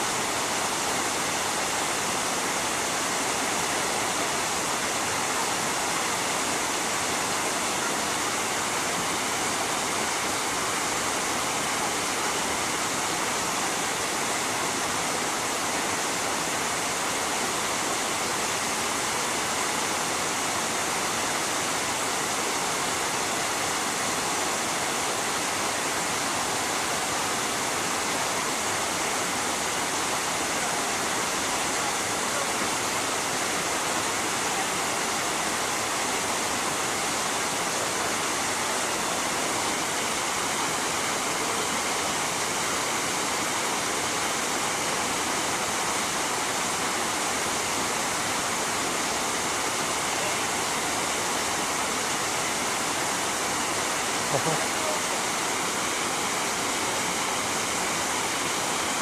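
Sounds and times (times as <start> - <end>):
waterfall pouring onto rocks: 0.0 - 59.0.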